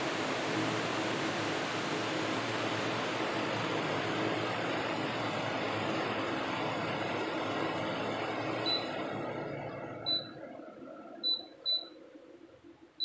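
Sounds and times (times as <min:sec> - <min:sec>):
electric fans whooshing: 0:00.0 - 0:13.0.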